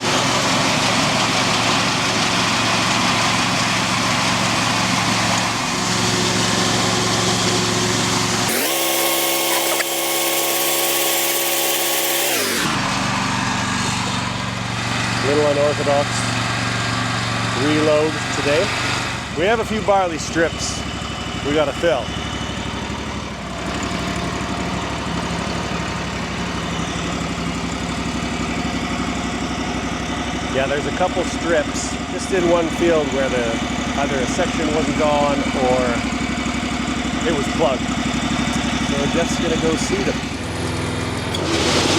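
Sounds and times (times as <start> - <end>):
engine humming with hiss: 0.0 - 8.5, 12.6 - 41.9.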